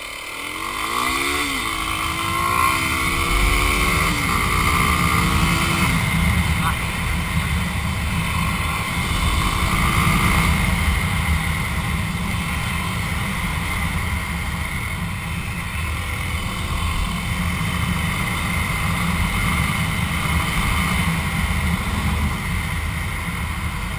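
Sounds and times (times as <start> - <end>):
motorcycle engine cruising: 0.0 - 23.9.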